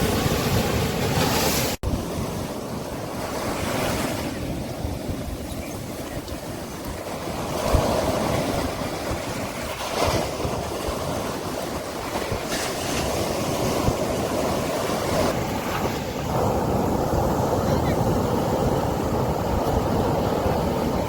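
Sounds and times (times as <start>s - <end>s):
sea waves breaking on beach: 0.0s - 21.0s.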